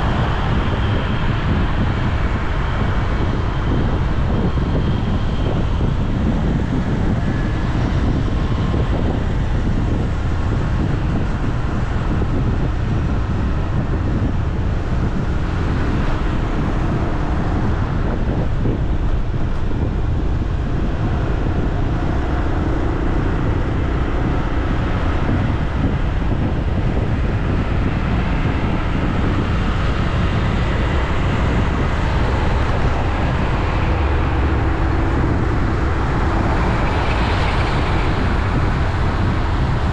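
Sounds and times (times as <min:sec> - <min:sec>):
road traffic noise: 0:00.0 - 0:39.9
wind rumbling on microphone: 0:00.0 - 0:39.9.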